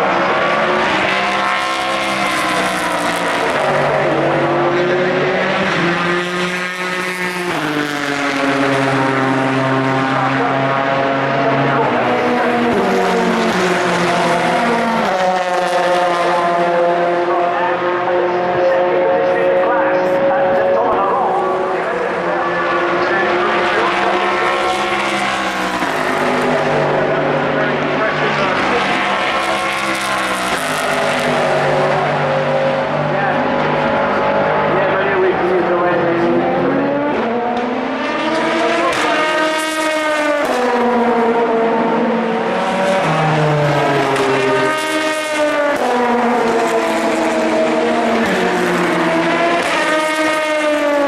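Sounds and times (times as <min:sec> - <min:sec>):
race car engines running: 0:00.0 - 0:51.0.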